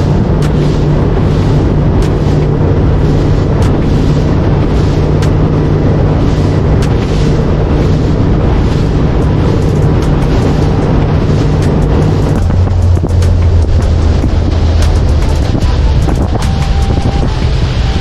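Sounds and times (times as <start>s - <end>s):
outboard motor drone: 0.0s - 18.0s
wind buffeting microphone: 0.0s - 18.0s.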